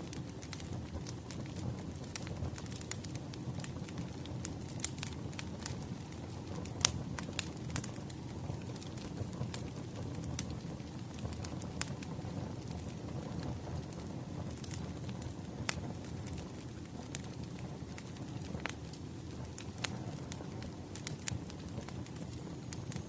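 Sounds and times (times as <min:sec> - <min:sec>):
firewood crackling and popping: 0:00.0 - 0:23.0
low rumble of flames: 0:00.0 - 0:23.0.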